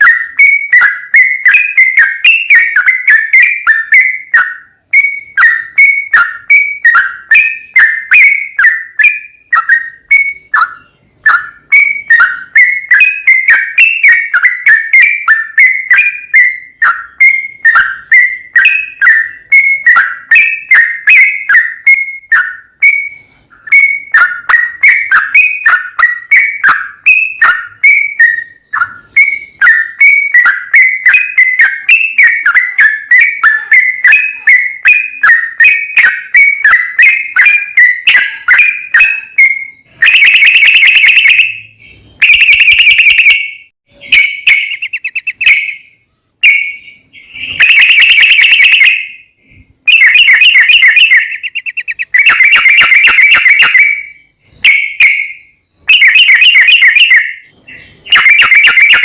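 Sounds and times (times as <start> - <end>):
bulbul chirping and trilling: 0.0 - 59.0.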